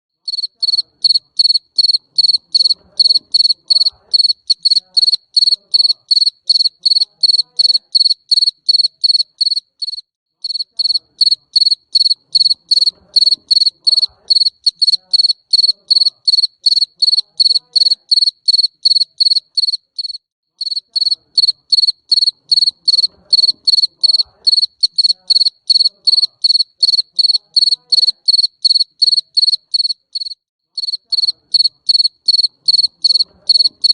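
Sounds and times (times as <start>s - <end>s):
cricket chirping: 0.3s - 33.9s.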